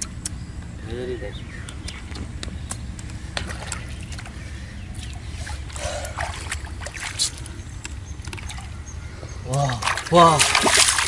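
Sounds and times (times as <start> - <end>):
water splashing and sloshing: 2.0 - 11.0.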